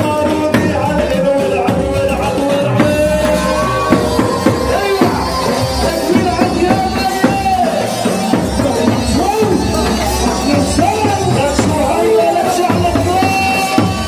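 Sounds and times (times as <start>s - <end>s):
held melody line: 0.0s - 14.0s
man singing into microphone: 0.0s - 14.0s
steady drum beat: 0.0s - 14.0s.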